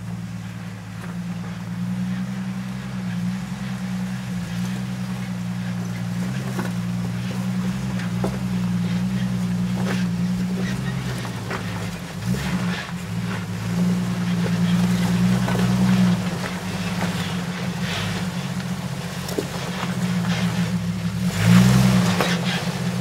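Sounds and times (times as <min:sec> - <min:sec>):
engine running at low revs: 0:00.0 - 0:23.0
rocks clicking under tyres: 0:00.0 - 0:23.0.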